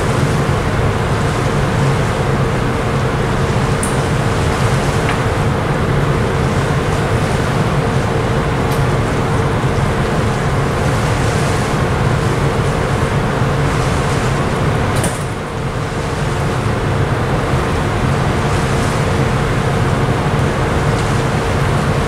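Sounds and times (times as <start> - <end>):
ship engines rumbling: 0.0 - 22.0.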